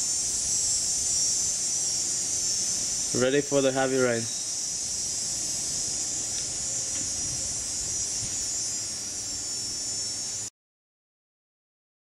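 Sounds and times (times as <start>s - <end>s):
high-pitched outdoor hiss: 0.0s - 10.5s.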